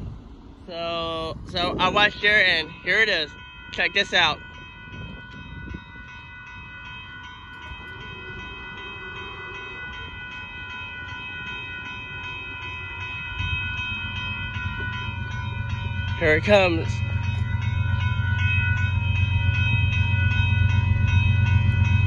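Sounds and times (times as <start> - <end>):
crossing warning bell ringing: 0.0 - 22.0
train rumble: 0.0 - 22.0.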